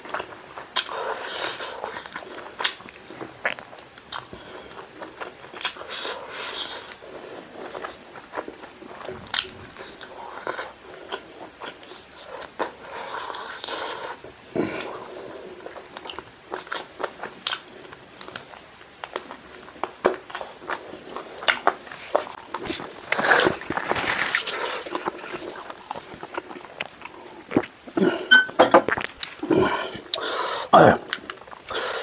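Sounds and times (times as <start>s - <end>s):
wet chewing and smacking: 0.1s - 28.0s.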